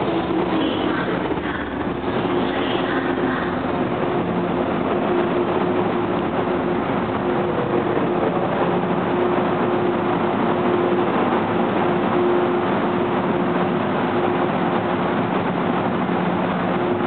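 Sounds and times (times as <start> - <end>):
steady hum: 0.0 - 17.0
train wheels rolling on rails: 0.0 - 17.0.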